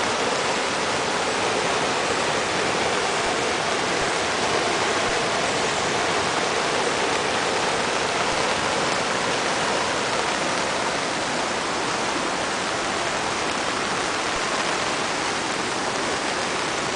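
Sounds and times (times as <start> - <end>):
flooded creek water rushing: 0.0 - 16.9.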